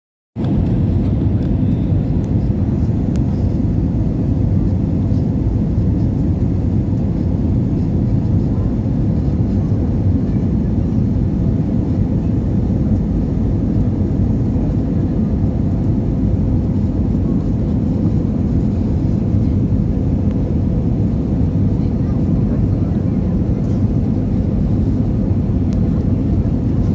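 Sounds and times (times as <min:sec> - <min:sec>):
airliner engine and airflow roar: 0:00.4 - 0:26.9.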